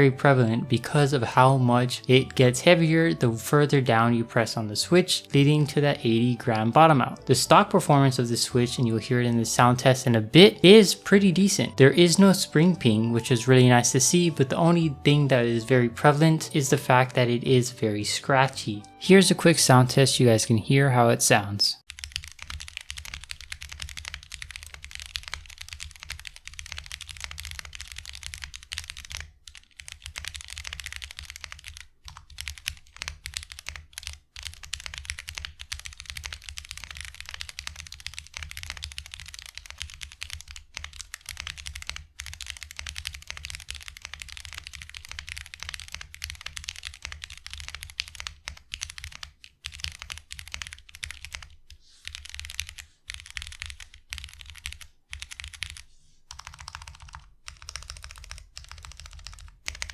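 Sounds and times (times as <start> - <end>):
mechanical keyboard typing: 0.2 - 19.0, 21.9 - 59.9.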